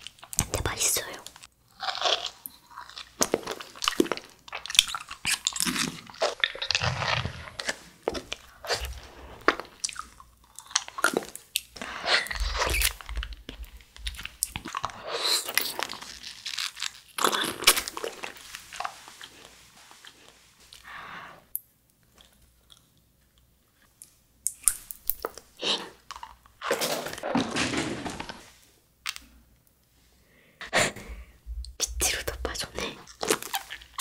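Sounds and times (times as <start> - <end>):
chewing jelly: 0.0 - 20.9, 21.9 - 27.2, 31.6 - 34.0.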